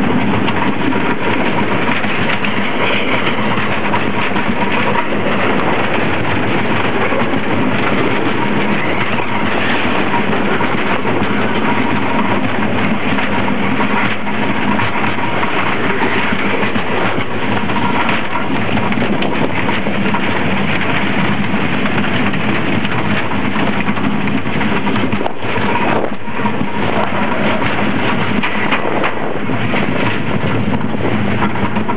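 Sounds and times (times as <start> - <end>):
roller coaster wheels rattling on track: 0.0 - 31.9.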